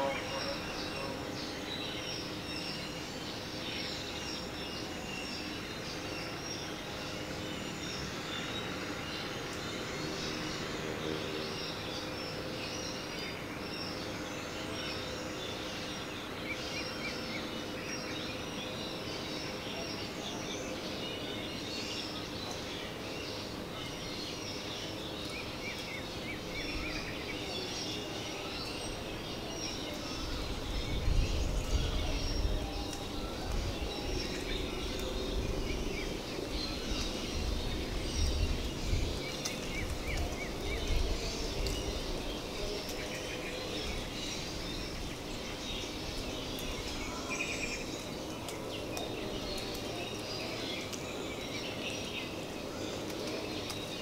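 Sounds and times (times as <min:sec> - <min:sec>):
small birds chirping: 0:00.0 - 0:54.0
steady background hiss: 0:00.0 - 0:54.0.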